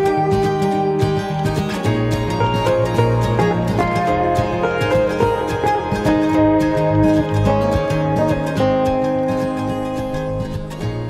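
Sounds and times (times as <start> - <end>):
low bass line: 0.0 - 11.0
plucked string music: 0.0 - 11.0.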